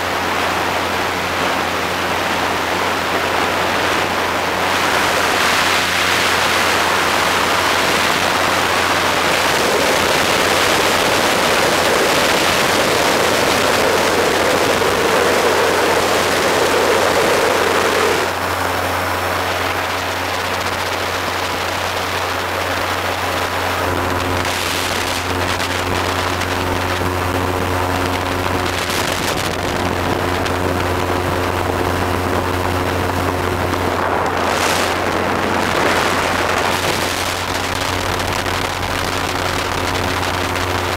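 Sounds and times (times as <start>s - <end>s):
engine drone: 0.0s - 40.9s
wind rushing over microphone: 0.0s - 40.9s.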